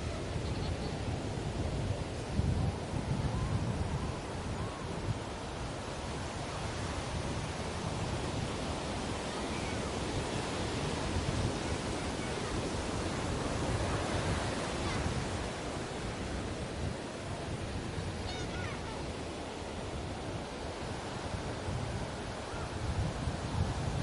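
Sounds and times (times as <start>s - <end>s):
ocean surf washing onto beach: 0.0s - 24.0s.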